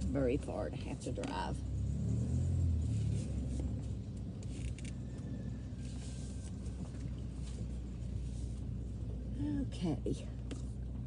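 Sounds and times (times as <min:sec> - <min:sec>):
car engine and tyres rumble: 0:00.0 - 0:11.0.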